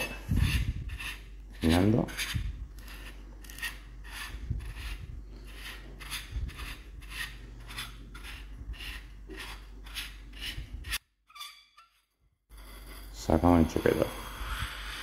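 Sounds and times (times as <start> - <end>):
metal threads rasping while unscrewed: 0.0 - 13.0.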